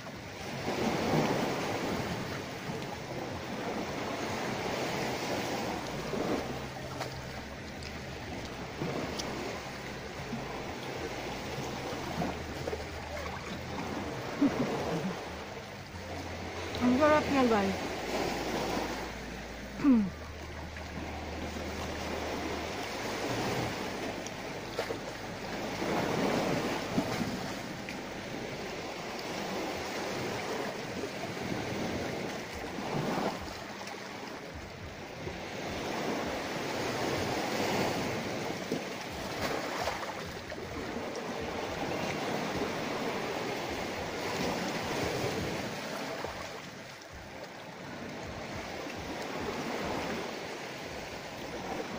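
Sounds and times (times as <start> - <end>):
sea waves washing ashore: 0.0 - 51.9.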